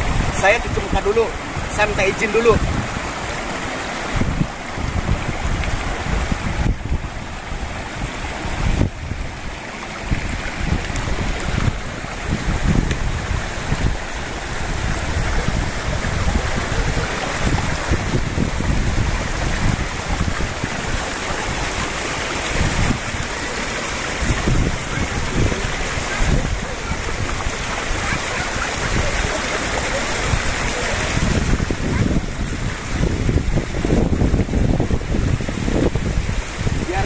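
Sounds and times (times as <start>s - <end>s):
stream running over stones: 0.0s - 37.0s
water pouring from small cascade: 0.0s - 37.0s
wind rumbling on microphone: 0.0s - 37.0s.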